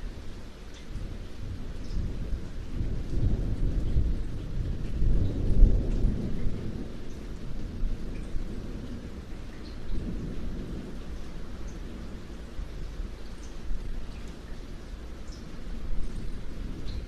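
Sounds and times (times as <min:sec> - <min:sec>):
raindrop patter: 0:00.0 - 0:17.0
rolling thunder: 0:01.0 - 0:14.4, 0:15.4 - 0:17.0.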